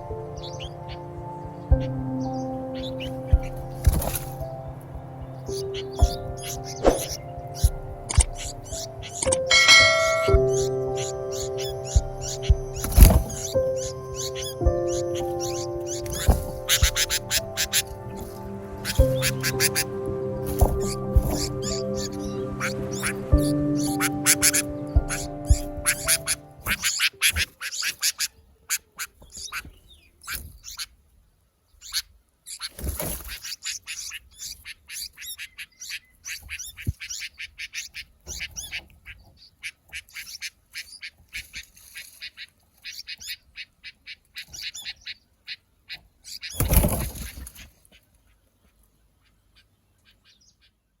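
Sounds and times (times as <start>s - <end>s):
bird chicks chirping: 0.0s - 31.0s, 31.7s - 51.0s.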